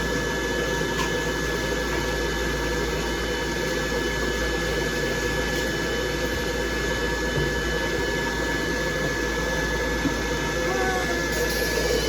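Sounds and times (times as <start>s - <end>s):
pet dryer blowing air: 0.0s - 12.0s.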